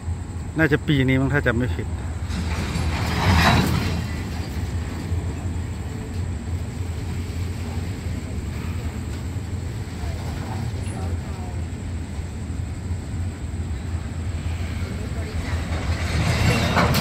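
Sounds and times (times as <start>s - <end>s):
freight wagons rolling on rails: 0.0s - 17.0s.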